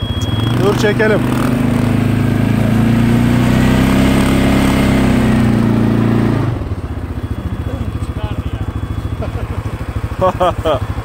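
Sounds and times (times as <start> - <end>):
atv engine revving and idling: 0.0 - 11.0.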